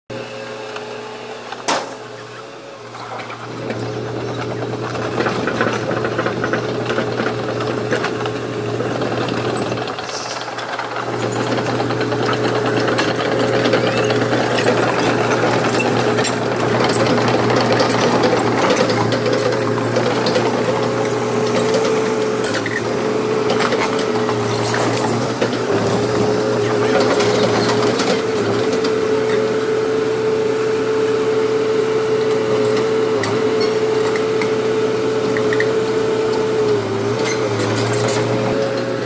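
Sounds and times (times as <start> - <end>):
excavator diesel engine droning: 0.1 - 39.0.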